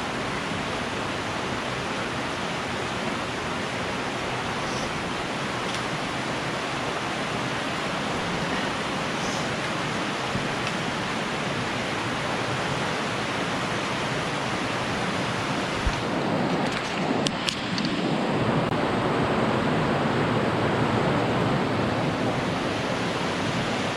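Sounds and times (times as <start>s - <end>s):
creek flowing through a cave: 0.0s - 23.9s.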